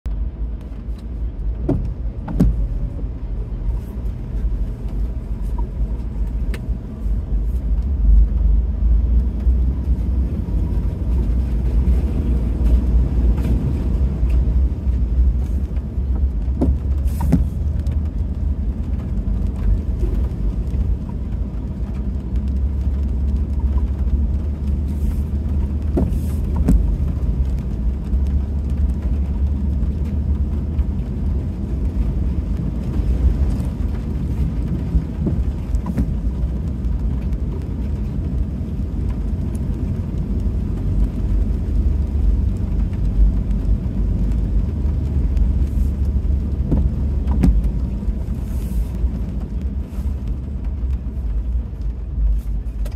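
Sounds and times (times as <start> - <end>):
vehicle engine and road rumble: 0.0 - 52.9
water washing under vehicle: 0.1 - 52.9.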